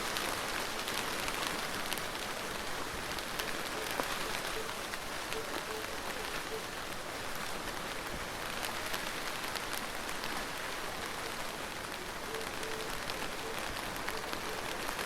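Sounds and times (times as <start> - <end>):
raindrops ticking on a surface: 0.0 - 15.0
steady rain falling: 0.0 - 15.0.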